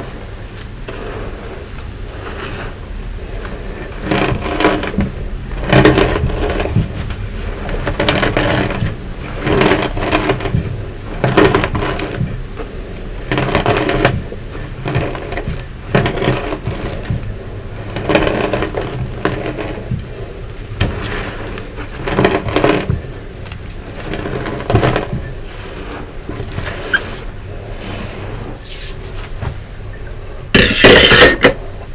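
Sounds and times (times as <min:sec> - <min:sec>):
rolling pin crunching chalk: 0:00.0 - 0:29.7.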